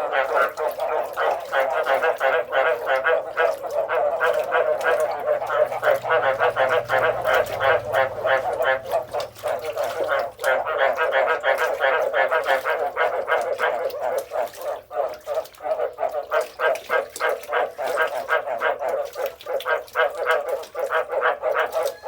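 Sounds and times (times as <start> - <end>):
frogs croaking: 0.0 - 22.0.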